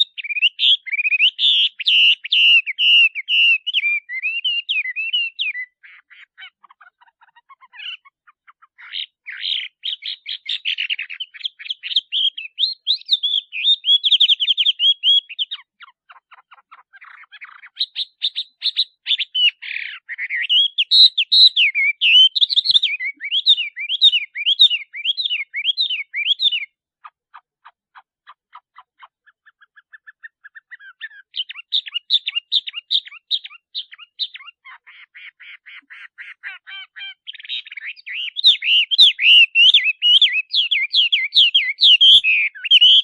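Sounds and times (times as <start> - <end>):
bird singing: 0.0 - 43.0.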